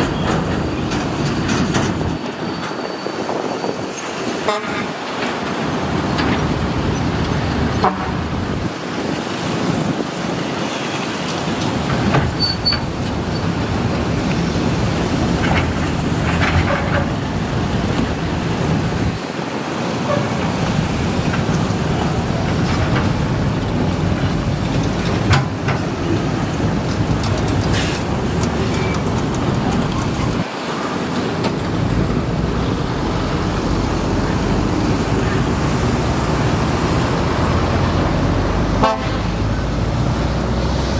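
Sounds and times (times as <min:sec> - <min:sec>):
excavator diesel engine: 0:00.0 - 0:02.8, 0:04.0 - 0:40.9.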